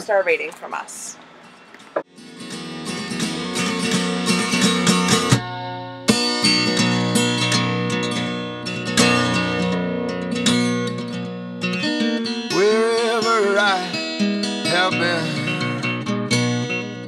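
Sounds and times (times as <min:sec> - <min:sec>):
strummed acoustic guitar music: 0:01.4 - 0:17.0.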